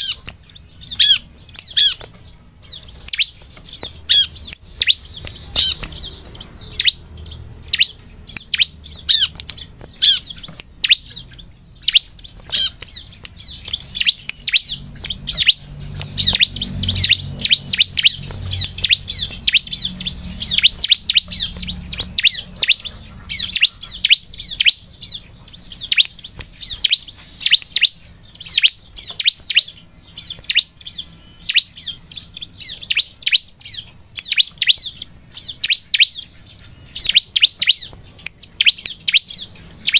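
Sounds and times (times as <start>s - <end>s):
bird calling with sharp high chirps: 0.0s - 39.9s.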